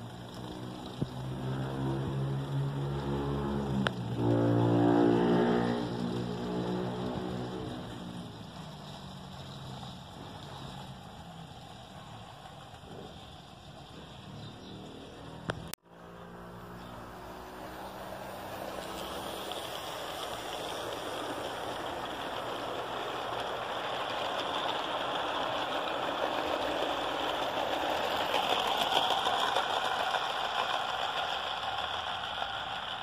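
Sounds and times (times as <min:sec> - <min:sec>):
model train wheels rolling on rails: 0:00.0 - 0:33.0.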